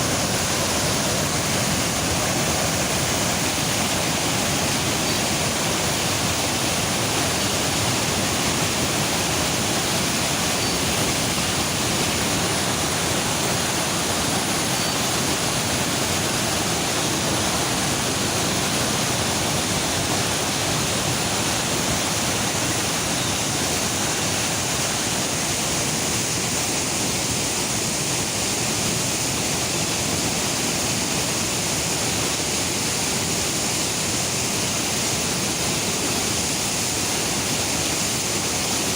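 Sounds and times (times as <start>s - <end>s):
river water rushing through rapids: 0.0s - 38.9s.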